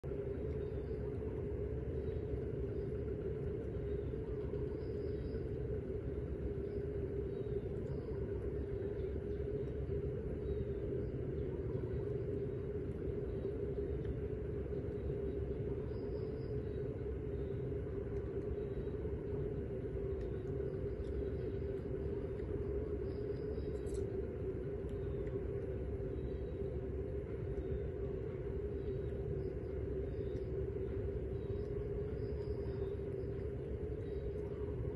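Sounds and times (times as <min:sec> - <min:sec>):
constant droning hum: 0:00.0 - 0:34.9
low rumble: 0:00.0 - 0:34.9.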